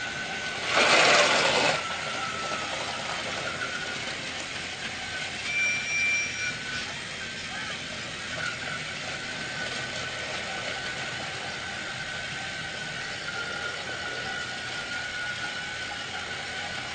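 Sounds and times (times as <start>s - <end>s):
small motor whining: 0.0s - 16.9s.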